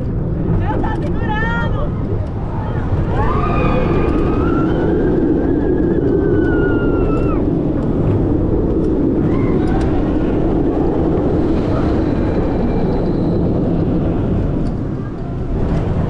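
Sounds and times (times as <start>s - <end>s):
roller coaster rumbling on track: 0.0s - 16.0s
wind on camera: 0.0s - 16.0s.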